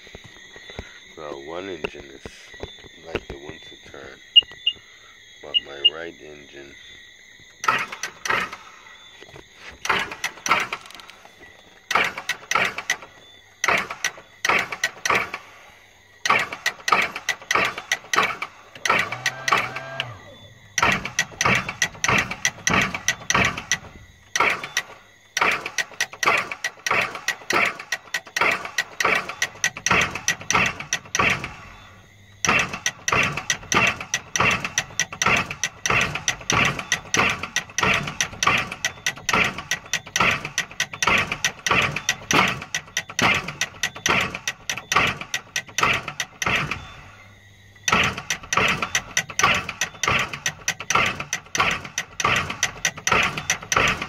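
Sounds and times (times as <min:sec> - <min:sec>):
boat engine misfiring: 0:07.4 - 0:54.0.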